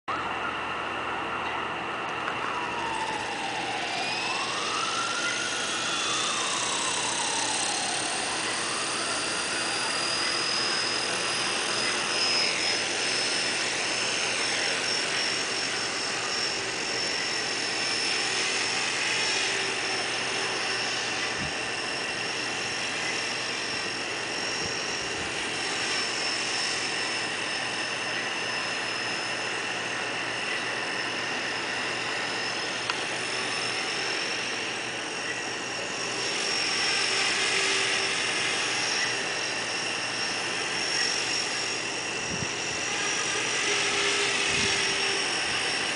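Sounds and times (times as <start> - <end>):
model helicopter rotor whining: 0.1 - 45.9.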